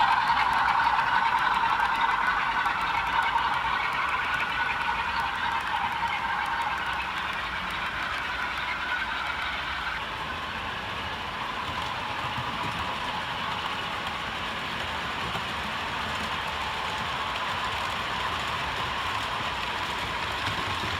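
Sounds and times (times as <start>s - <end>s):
model train rolling: 0.0s - 20.9s.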